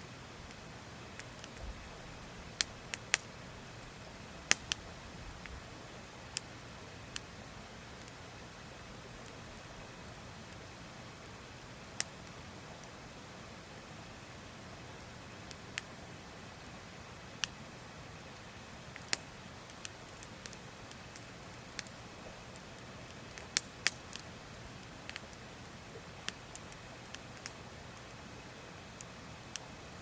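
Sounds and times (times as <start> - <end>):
wood fire crackling: 0.2 - 30.0.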